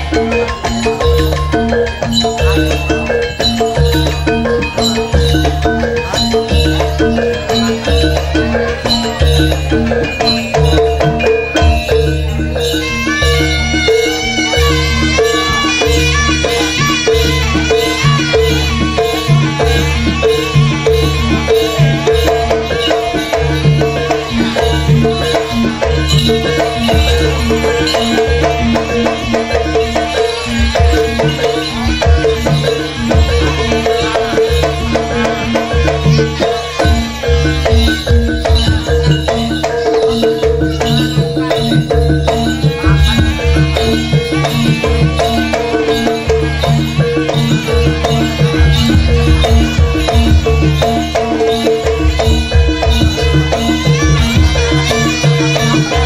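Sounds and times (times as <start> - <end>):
gamelan music: 0.0 - 56.0
percussion ensemble with drums: 0.0 - 56.0.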